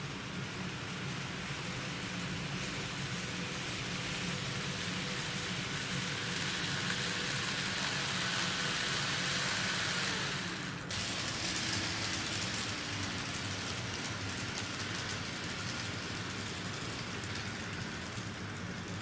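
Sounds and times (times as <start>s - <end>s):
faint motor whine: 0.0s - 19.0s
model train wheels rattling: 0.0s - 19.0s.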